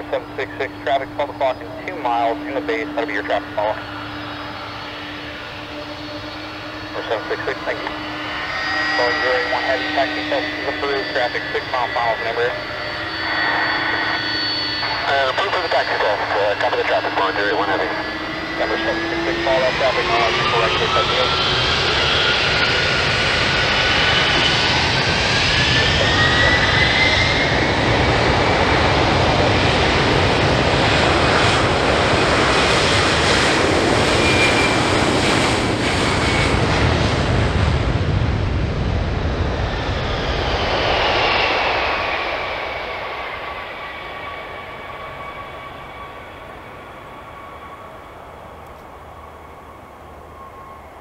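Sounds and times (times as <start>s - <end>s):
jet engines spooling up: 0.0s - 51.0s
loud jet noise: 0.0s - 51.0s.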